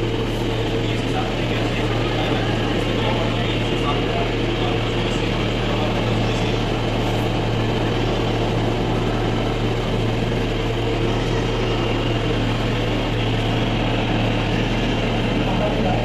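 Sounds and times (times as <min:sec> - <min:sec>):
cotton candy machine motor droning: 0:00.0 - 0:16.0.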